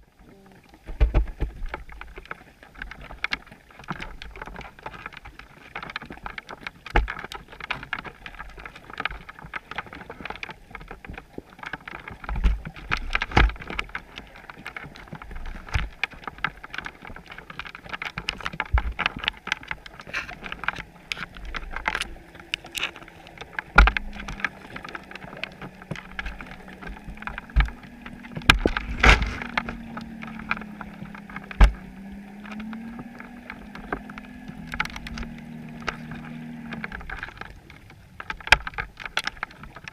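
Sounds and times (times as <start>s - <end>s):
muffled water hiss: 0.0s - 39.9s
underwater clicks and knocks: 0.0s - 39.9s.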